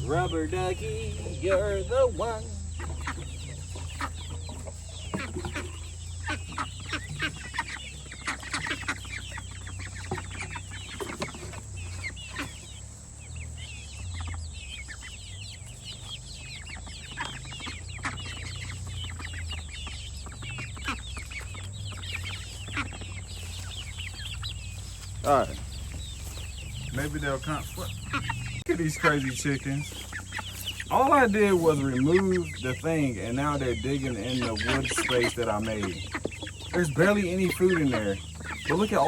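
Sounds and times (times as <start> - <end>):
chickens clucking: 0.0 - 39.0
steady low hum: 0.0 - 39.0.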